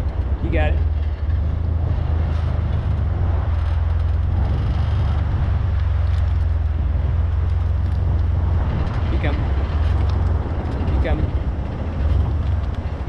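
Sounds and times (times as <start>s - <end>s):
engine rumbling at low speed: 0.0s - 13.0s.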